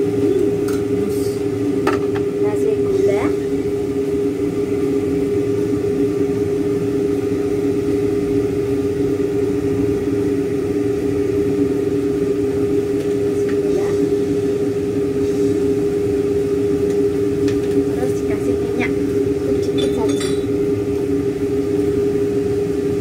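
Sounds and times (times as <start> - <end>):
kitchen appliance motor hum: 0.0 - 23.0.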